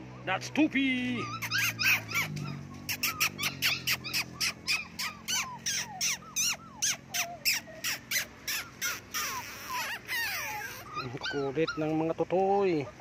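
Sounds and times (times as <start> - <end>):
puppy yelping: 0.0 - 13.0.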